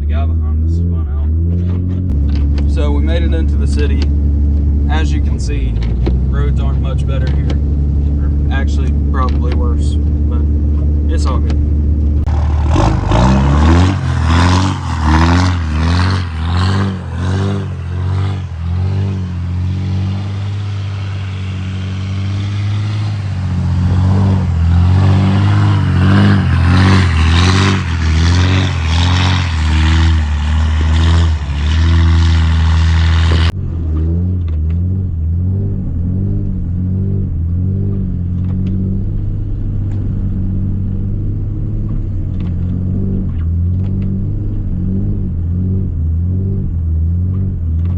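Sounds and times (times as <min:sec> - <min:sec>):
diesel pickup engine revving: 0:00.0 - 0:47.9.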